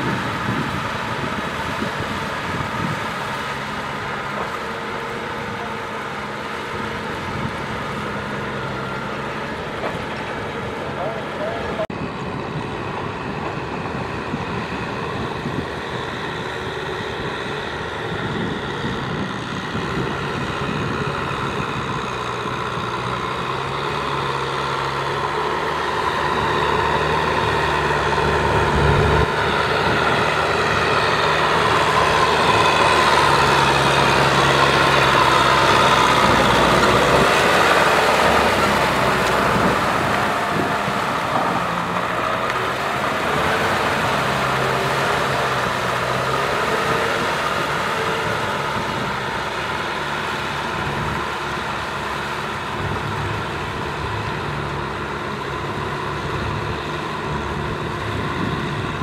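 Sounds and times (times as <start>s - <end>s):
rotary tiller churning mud: 0.0s - 11.8s, 13.6s - 59.0s
tractor diesel engine running: 0.0s - 59.0s.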